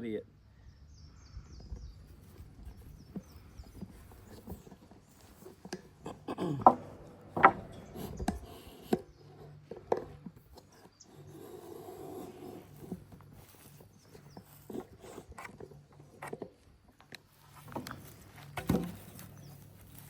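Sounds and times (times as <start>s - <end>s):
wooden board knocks and scrapes: 2.1s - 16.6s, 17.6s - 19.7s.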